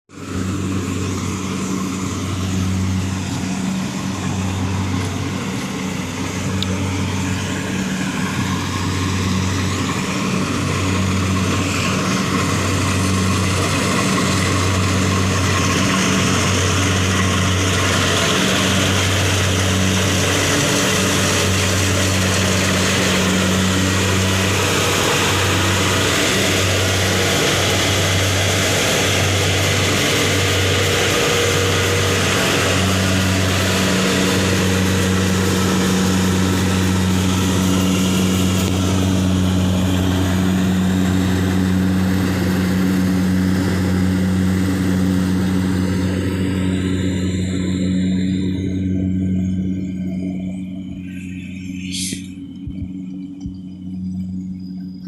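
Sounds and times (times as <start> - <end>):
engine humming: 0.0 - 55.0
machine rushing and whirring: 0.1 - 55.0.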